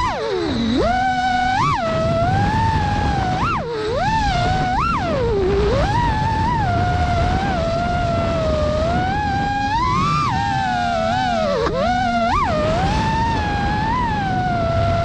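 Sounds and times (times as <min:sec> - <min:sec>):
drone motors whining: 0:00.0 - 0:15.0
low wind noise: 0:00.0 - 0:15.0.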